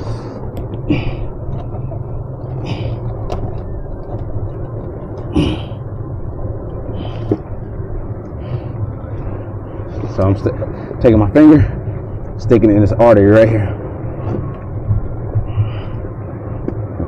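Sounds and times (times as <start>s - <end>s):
outboard engines rumbling: 0.0s - 17.0s.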